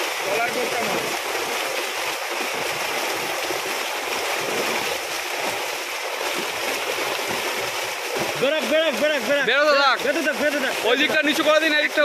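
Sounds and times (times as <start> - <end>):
fish splashing in a net: 0.0 - 12.0.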